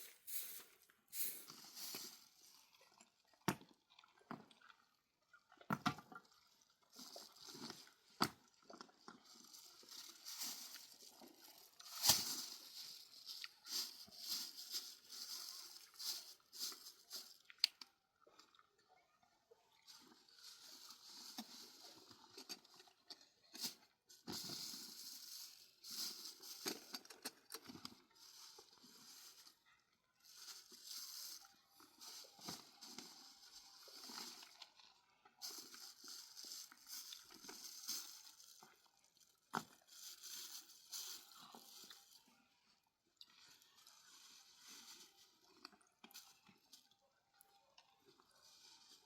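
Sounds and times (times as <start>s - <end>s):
light crinkling: 0.0s - 18.7s, 19.8s - 49.0s
people chewing and crunching: 0.0s - 18.9s, 19.8s - 48.4s.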